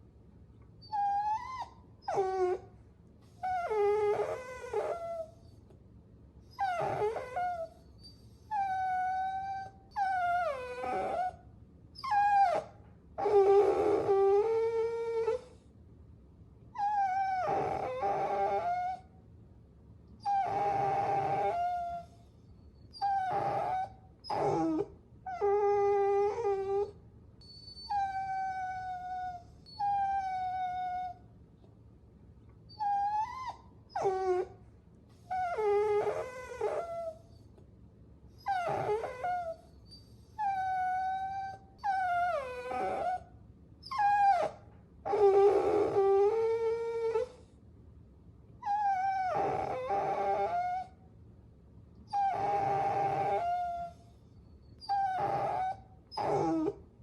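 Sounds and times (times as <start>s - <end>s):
puppies whining: 0.8s - 2.7s, 3.3s - 5.6s, 6.5s - 11.4s, 12.0s - 15.6s, 16.8s - 19.1s, 20.2s - 31.2s, 32.7s - 34.6s, 35.2s - 37.5s, 38.4s - 47.5s, 48.6s - 51.0s, 52.1s - 56.8s.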